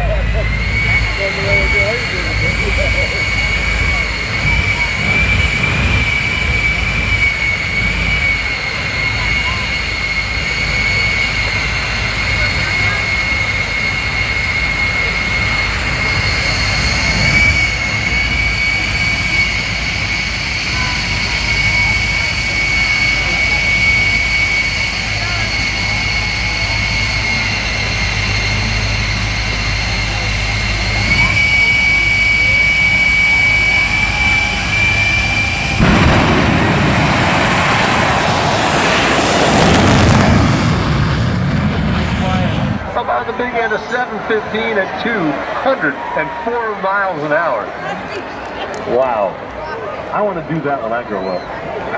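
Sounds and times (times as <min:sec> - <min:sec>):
high-pitched whine: 0:00.0 - 0:45.6
jet engine roaring: 0:00.0 - 0:51.9.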